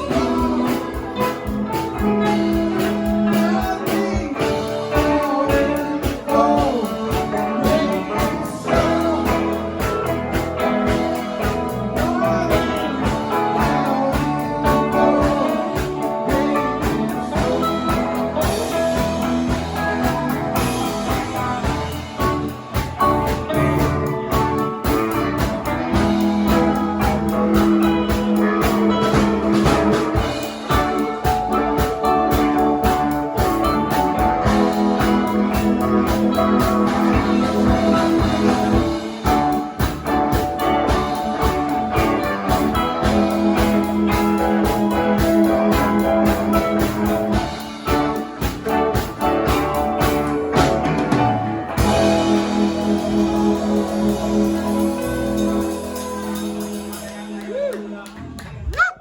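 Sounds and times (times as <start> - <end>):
steady drum beat: 0.0 - 57.4
guitar: 0.0 - 59.0
live band playing: 0.0 - 59.0.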